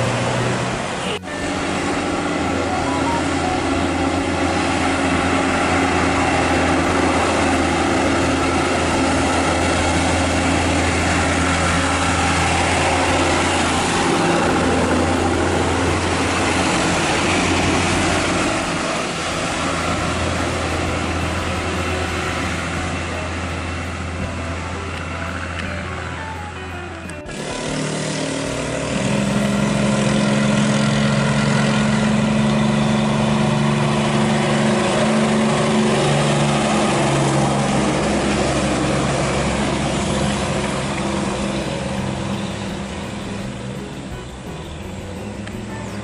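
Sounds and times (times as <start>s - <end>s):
heavy trucks passing: 0.0s - 46.0s.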